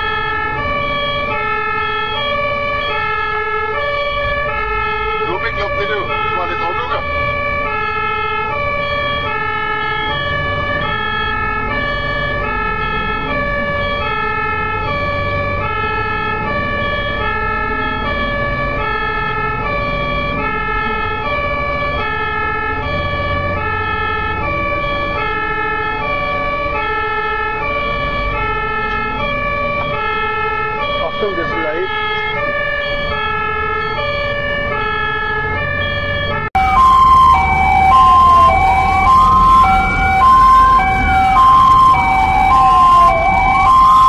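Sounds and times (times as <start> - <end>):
ambulance two-tone siren: 0.0 - 44.0
engine and road rumble: 0.0 - 44.0.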